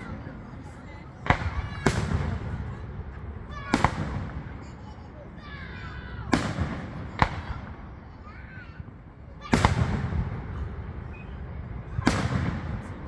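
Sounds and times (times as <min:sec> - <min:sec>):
faint voices: 0:00.0 - 0:13.0
low rumbling echo: 0:00.0 - 0:13.0
fireworks bursting: 0:01.2 - 0:08.2, 0:09.4 - 0:13.0.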